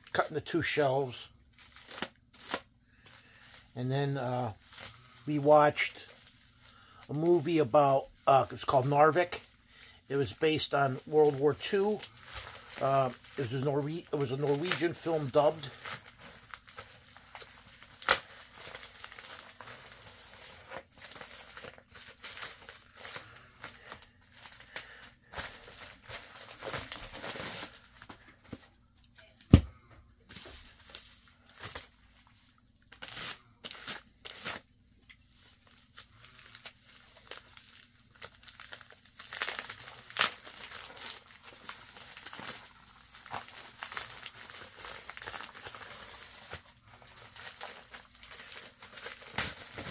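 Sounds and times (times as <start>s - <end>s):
padded mailer crinkling and tearing: 0.1s - 28.7s, 30.3s - 49.9s.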